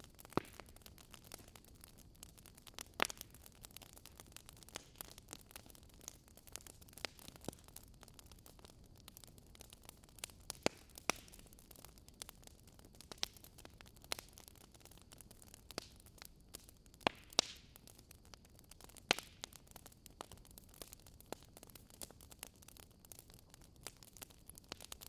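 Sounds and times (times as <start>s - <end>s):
campfire crackling and snapping: 0.0s - 25.0s.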